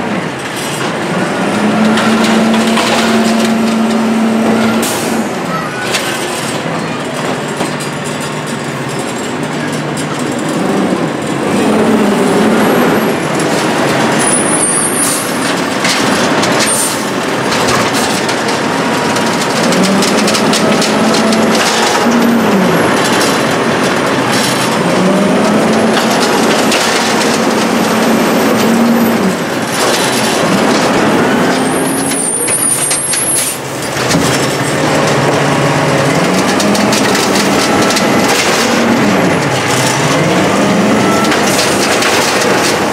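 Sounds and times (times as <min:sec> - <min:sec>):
garbage truck diesel engine revving: 0:00.0 - 0:42.9.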